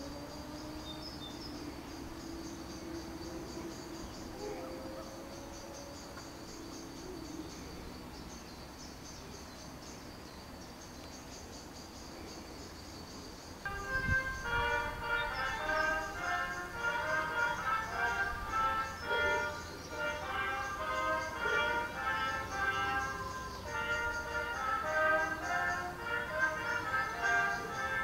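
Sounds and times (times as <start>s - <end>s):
faint low drawn-out tones: 0.0s - 10.1s, 13.6s - 28.0s
crickets chirping: 0.0s - 28.0s.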